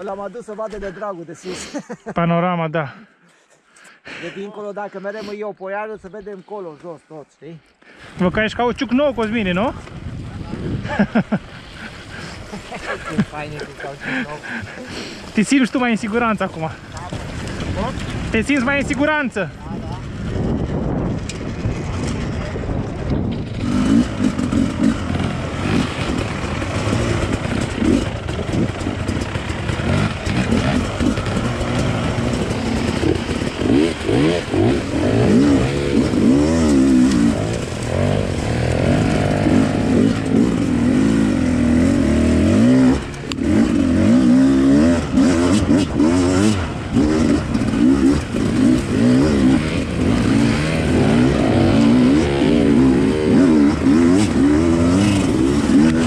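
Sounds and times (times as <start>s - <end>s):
motorcycle engine revving: 9.0s - 56.0s.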